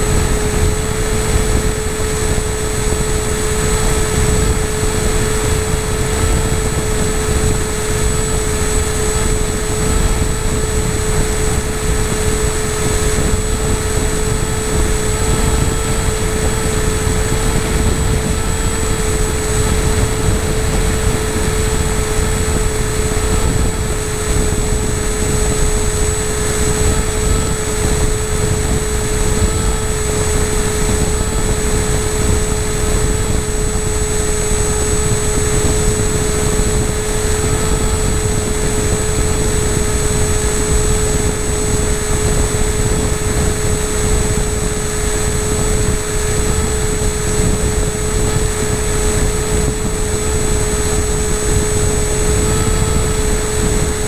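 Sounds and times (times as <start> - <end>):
motor and propeller whine: 0.0 - 54.0
wind rushing across microphone: 0.0 - 54.0.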